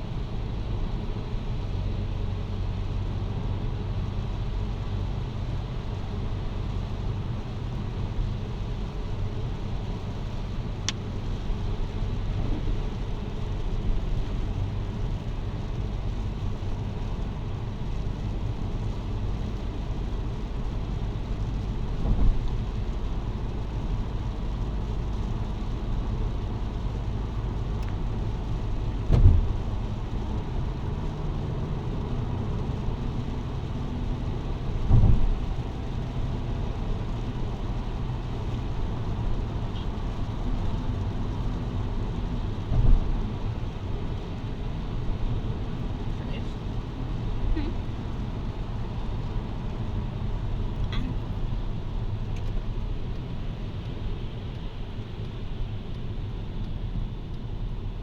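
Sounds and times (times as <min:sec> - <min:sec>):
car driving in heavy rain: 0:00.0 - 0:58.0.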